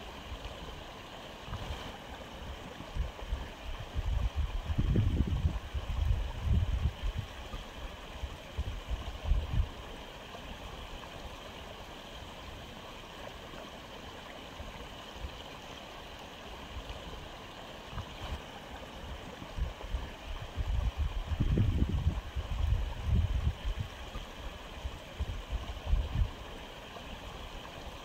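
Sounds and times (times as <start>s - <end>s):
aquarium filter water running: 0.0s - 28.0s.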